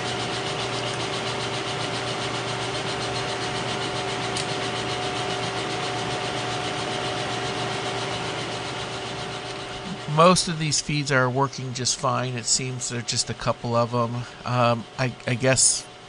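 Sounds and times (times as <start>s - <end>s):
milling machine gear whine: 0.0s - 16.0s.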